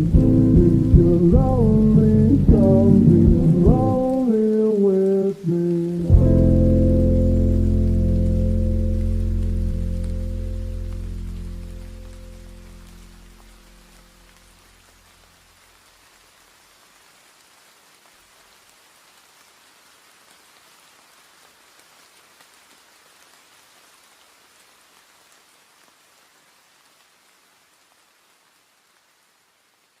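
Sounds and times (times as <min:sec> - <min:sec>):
faint rain patter: 0:00.0 - 0:30.0.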